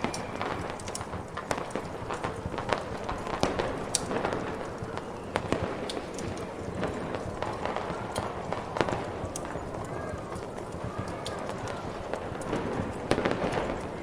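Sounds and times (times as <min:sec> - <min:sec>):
fire crackling: 0:00.0 - 0:14.0
fireworks popping: 0:00.0 - 0:14.0.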